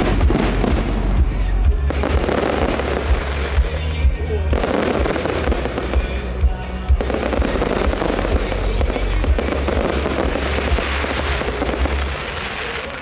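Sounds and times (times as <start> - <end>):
heavy low rumble: 0.0 - 12.7
fireworks bangs and crackles: 0.0 - 13.0.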